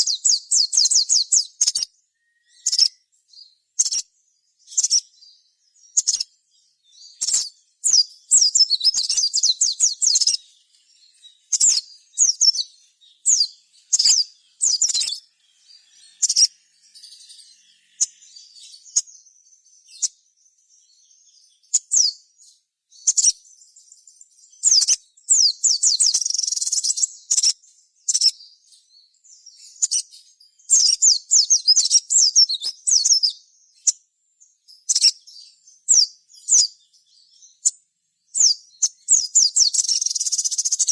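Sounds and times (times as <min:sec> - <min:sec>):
small bird chirping and trilling: 0:00.0 - 0:40.9.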